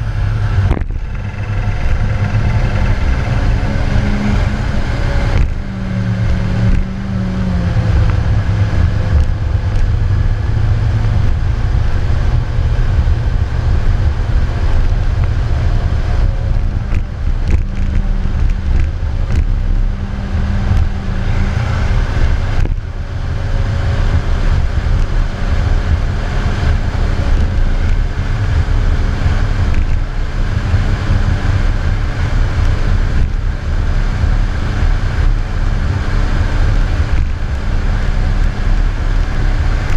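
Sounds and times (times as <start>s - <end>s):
heavy diesel engine running: 0.0s - 39.9s
wind on microphone: 0.0s - 39.9s.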